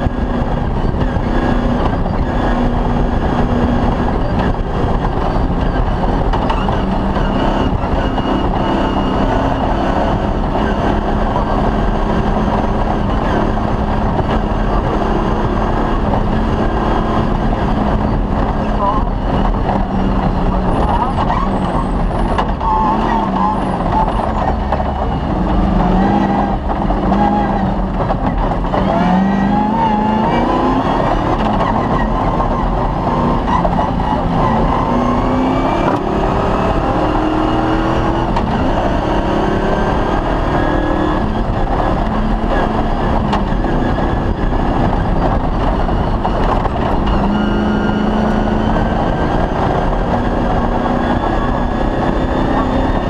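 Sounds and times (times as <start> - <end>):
rally car engine revving: 0.0 - 53.0
tyre and road noise: 0.0 - 53.0.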